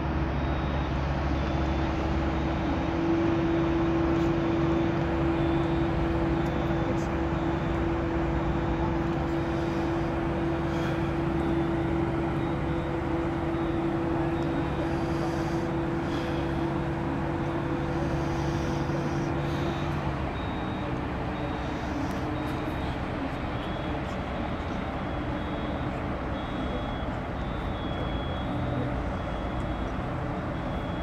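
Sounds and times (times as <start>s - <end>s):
diesel engine drone: 0.0s - 31.0s.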